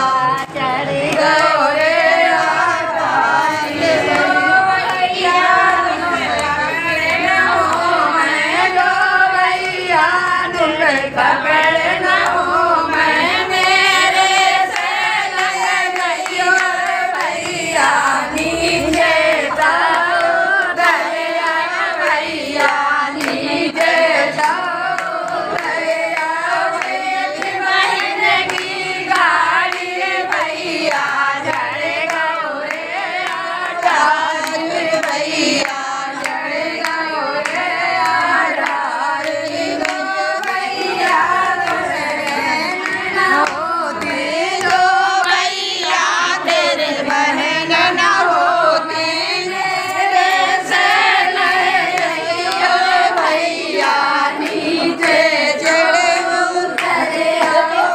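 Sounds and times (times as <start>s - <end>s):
hand claps: 0.0s - 9.1s, 10.9s - 57.9s
women singing together: 0.0s - 57.9s.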